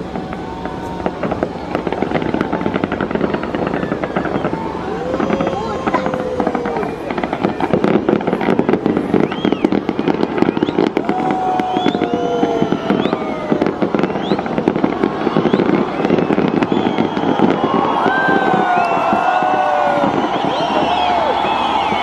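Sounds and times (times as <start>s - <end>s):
fireworks bangs: 0.0s - 22.0s
fireworks crackling: 0.0s - 22.0s
whistling fireworks: 0.0s - 22.0s.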